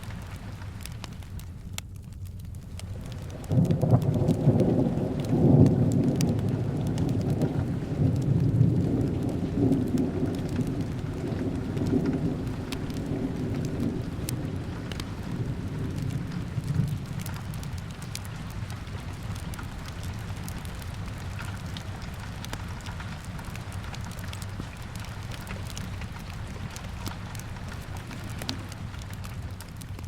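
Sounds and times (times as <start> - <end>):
fire crackling: 0.0 - 30.0
steady rain: 0.0 - 30.0
thunder rumbling: 2.7 - 29.7.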